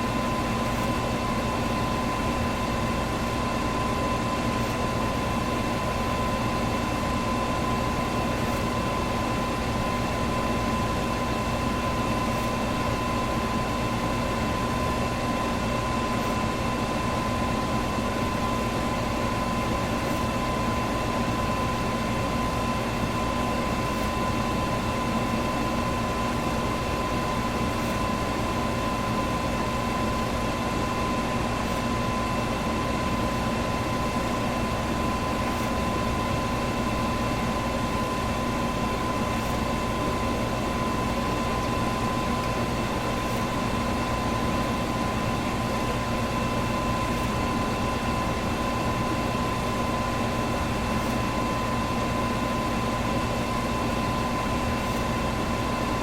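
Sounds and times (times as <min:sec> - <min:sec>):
electric fan whirring: 0:00.0 - 0:56.0
fan motor hum: 0:00.0 - 0:56.0.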